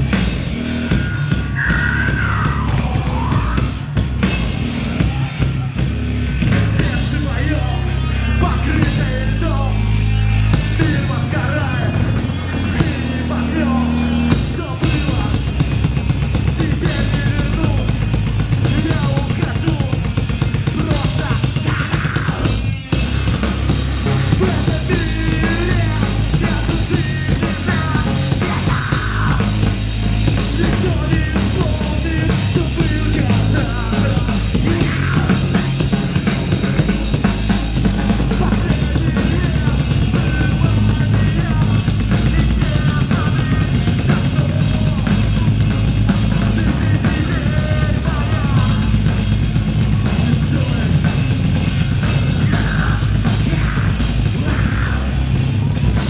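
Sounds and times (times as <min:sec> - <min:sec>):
bass guitar: 0:00.0 - 0:56.0
driving drum kit: 0:00.0 - 0:56.0
rock band playing live: 0:00.0 - 0:56.0.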